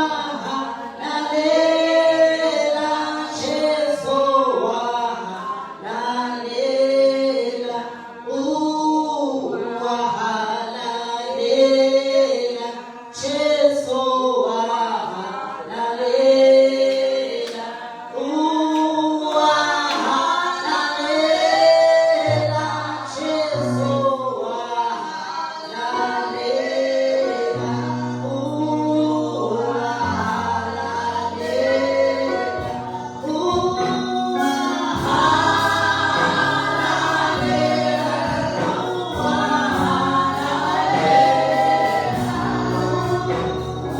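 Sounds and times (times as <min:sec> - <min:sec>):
choir singing: 0:00.0 - 0:13.8, 0:14.5 - 0:43.9.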